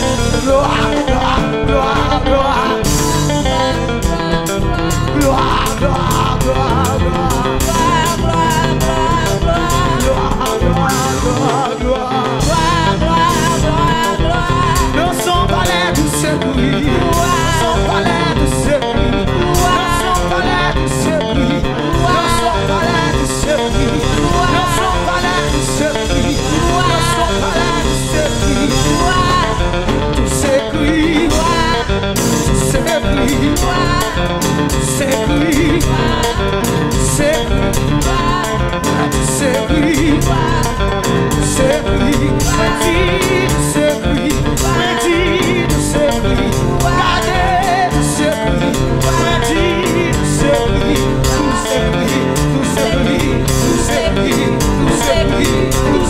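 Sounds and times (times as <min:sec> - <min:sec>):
live band playing: 0:00.0 - 0:56.0
person singing: 0:00.0 - 0:56.0.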